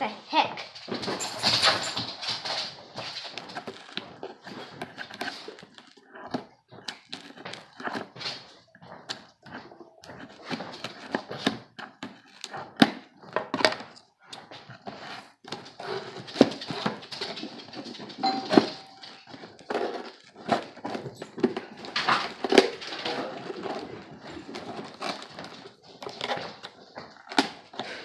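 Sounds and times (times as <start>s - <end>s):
cardboard and plastic rustling: 0.7s - 28.0s.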